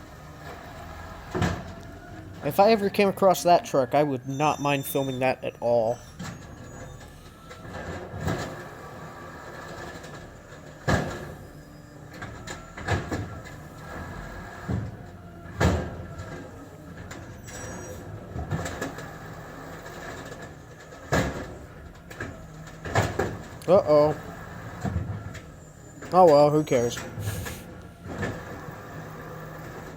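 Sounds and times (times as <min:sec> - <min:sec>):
garbage truck engine running: 0:00.0 - 0:29.9.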